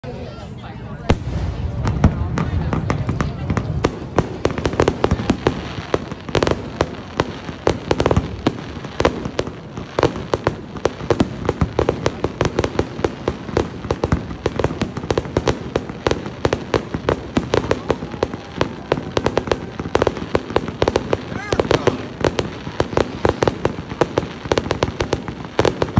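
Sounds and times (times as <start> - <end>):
fireworks bangs and pops: 1.0 - 25.9.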